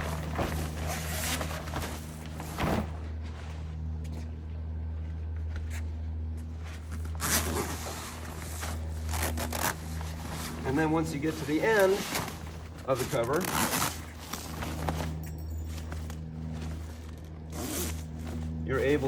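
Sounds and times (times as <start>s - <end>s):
heavy fabric rustling scrapes: 0.0s - 4.0s, 6.5s - 19.0s
steady low hum: 0.0s - 19.0s.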